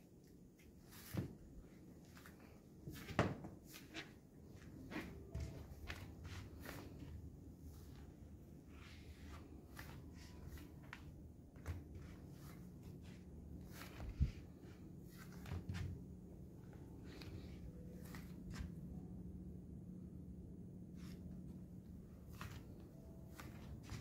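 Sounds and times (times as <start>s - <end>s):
steady low hum: 0.0s - 24.0s
soft footsteps: 0.1s - 19.0s, 20.9s - 24.0s.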